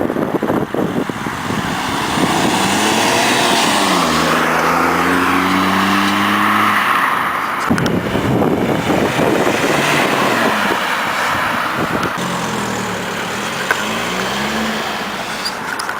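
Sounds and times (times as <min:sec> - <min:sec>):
car exhaust accelerating: 0:00.1 - 0:07.0, 0:07.7 - 0:15.9.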